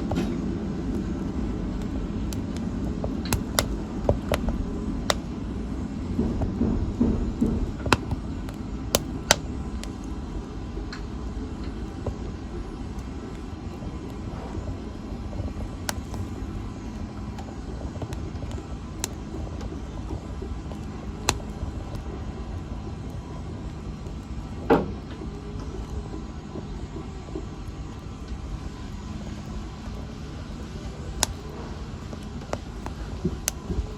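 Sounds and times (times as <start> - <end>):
low rumble of flames: 0.0 - 33.9
wood crackling and popping: 0.0 - 33.9.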